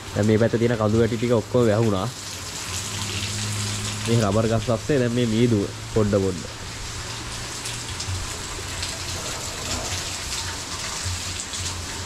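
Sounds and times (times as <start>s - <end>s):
rushing water-like noise: 0.0s - 12.0s.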